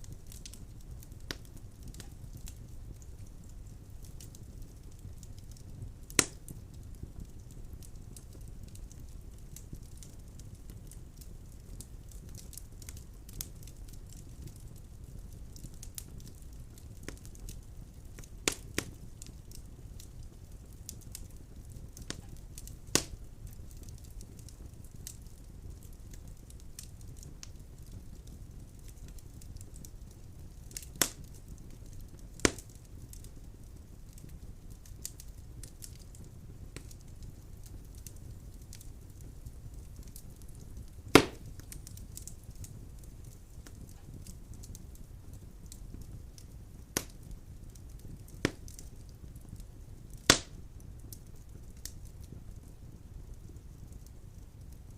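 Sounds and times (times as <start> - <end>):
burning logs popping: 0.0 - 54.9
wood fire crackling: 0.0 - 54.9.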